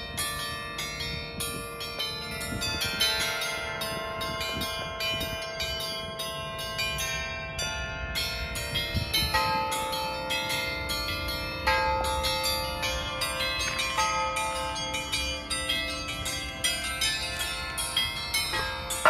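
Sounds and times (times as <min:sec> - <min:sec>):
bells ringing in quick run: 0:00.0 - 0:19.0.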